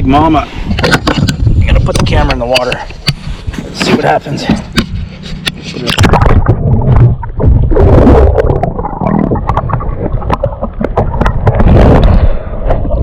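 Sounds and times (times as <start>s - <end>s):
water churning underwater: 0.0s - 13.0s.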